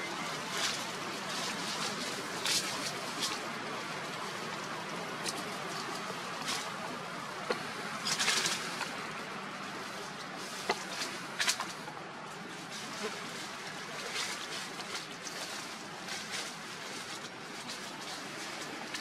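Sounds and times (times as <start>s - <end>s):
dry leaves rustling and crackling: 0.0s - 19.0s
steady background noise: 0.0s - 19.0s.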